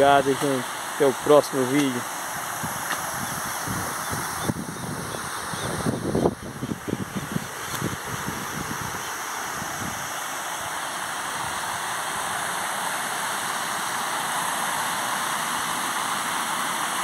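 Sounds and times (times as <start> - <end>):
waterfall rushing over rock: 0.0 - 17.0.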